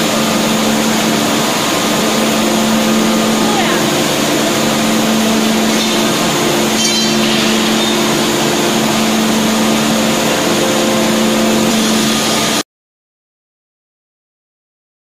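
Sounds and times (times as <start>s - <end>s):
hydraulic power unit humming: 0.0s - 12.6s.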